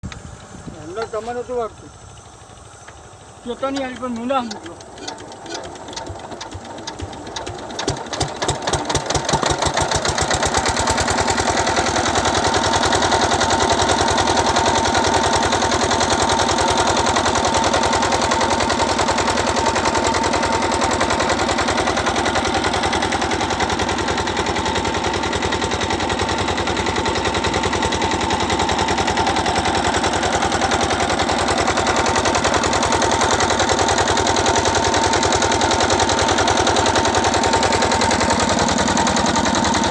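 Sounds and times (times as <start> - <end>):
diesel water pump engine knocking: 0.1 - 39.9.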